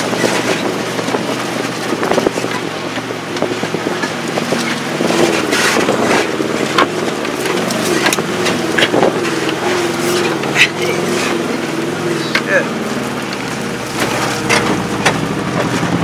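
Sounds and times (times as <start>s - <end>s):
van engine running: 0.0s - 16.0s
van rattling over ruts: 0.0s - 16.0s.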